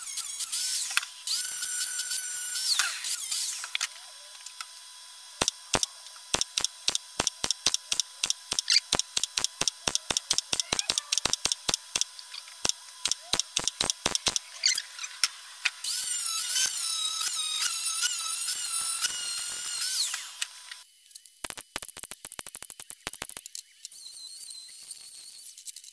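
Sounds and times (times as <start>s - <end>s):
power tool whine: 0.0s - 20.9s, 23.9s - 25.7s
welder crackling pulses: 0.0s - 25.9s.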